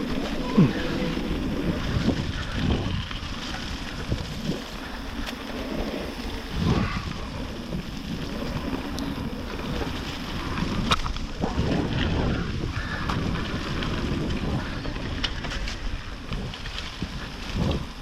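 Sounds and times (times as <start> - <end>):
tyres rolling on wet trail: 0.0 - 18.0
wind buffeting microphone: 0.0 - 18.0.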